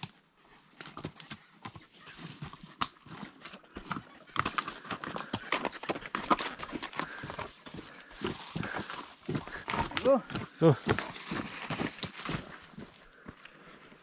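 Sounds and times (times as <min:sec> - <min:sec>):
horse hooves clopping on rocky trail: 0:00.0 - 0:14.0.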